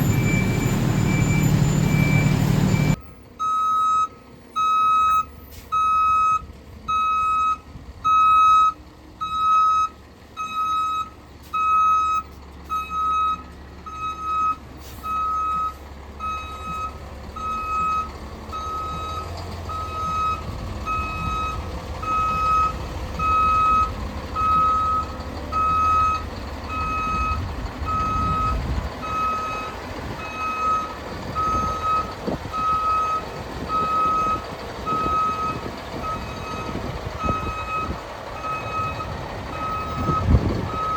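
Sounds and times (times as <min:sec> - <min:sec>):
reverse alarm beeping: 0:00.0 - 0:40.9
truck engine rumble: 0:00.0 - 0:40.9.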